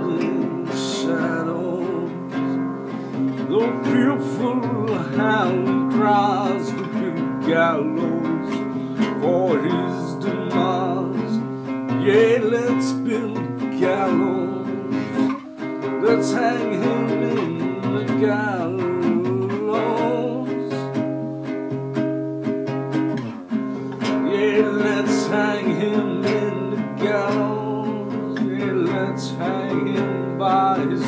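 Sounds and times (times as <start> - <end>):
man singing: 0.0 - 21.1, 24.0 - 31.0
acoustic guitar chords: 0.0 - 31.0.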